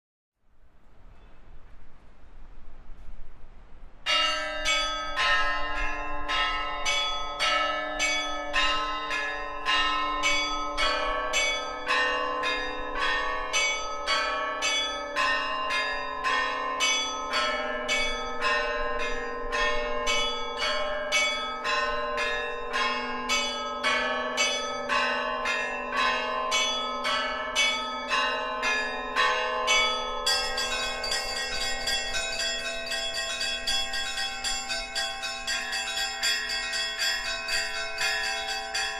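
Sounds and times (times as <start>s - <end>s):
small church bells ringing: 4.0s - 38.9s
large bell humming: 4.1s - 38.9s.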